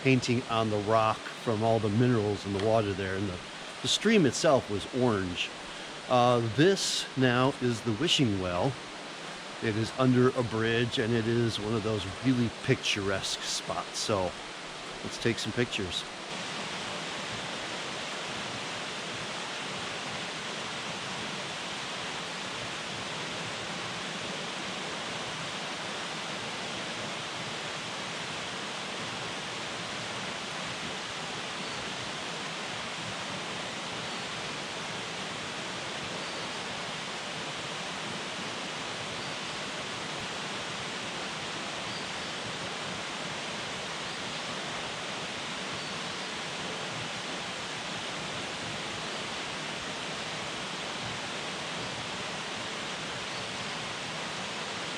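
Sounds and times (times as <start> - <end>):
small waterfall pouring: 0.0 - 15.5, 16.1 - 54.9.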